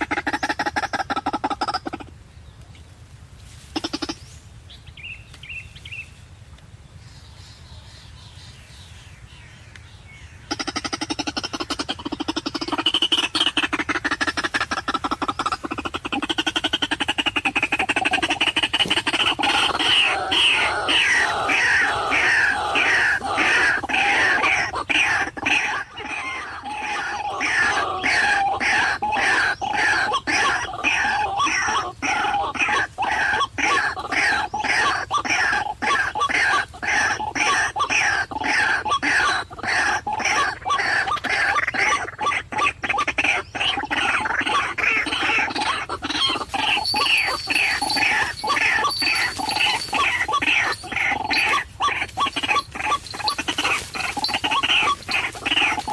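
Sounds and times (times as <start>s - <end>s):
waterhen calling harsh notes: 10.5s - 55.9s.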